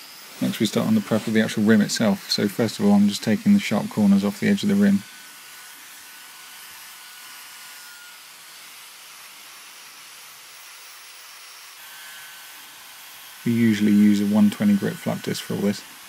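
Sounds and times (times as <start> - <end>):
angle grinder on metal: 0.0 - 16.0.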